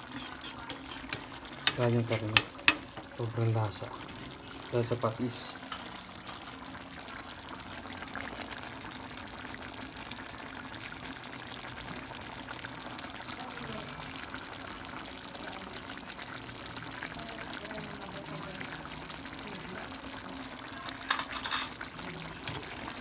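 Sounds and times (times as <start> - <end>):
stew simmering and bubbling: 0.0 - 23.0.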